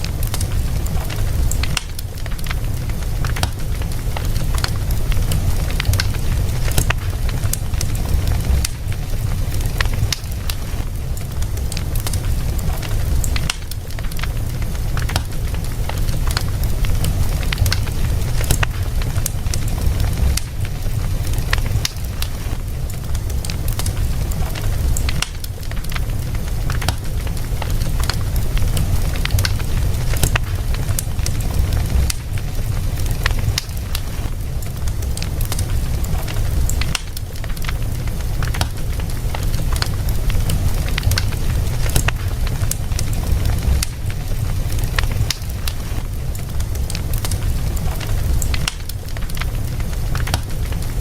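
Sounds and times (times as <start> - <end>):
rumble of flames: 0.0 - 51.0
wood fire crackling: 0.0 - 51.0.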